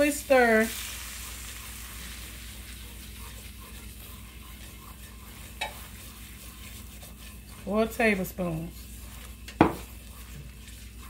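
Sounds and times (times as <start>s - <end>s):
butter and flour sizzling: 0.0s - 11.0s.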